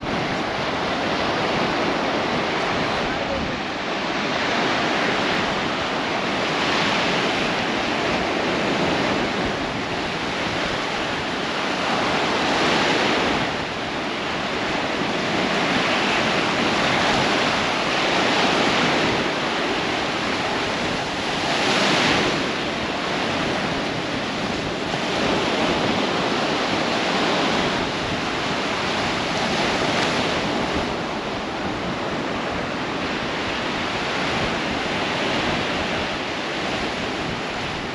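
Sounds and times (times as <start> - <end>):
waves washing onto shore: 0.0 - 37.9.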